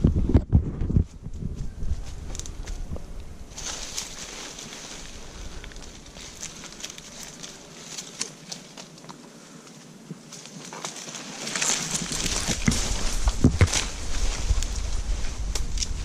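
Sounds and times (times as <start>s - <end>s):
leafy branches rustling: 1.0s - 16.0s
steady high hiss: 2.0s - 16.0s.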